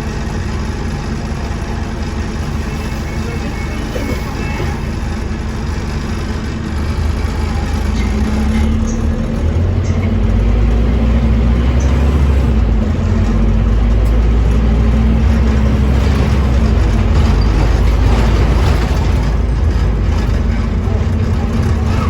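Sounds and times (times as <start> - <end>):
bus diesel engine drone: 0.0 - 22.0.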